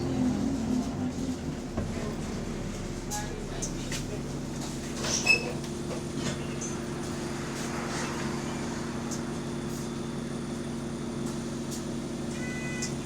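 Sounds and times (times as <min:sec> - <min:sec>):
bus engine humming: 0:00.0 - 0:13.0.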